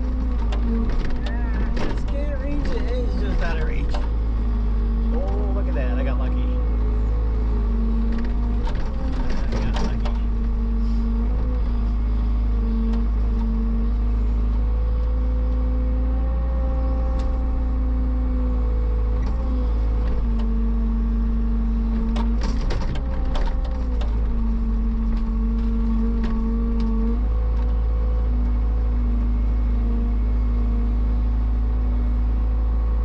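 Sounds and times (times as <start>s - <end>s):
heavy machine engine running: 0.0s - 33.0s.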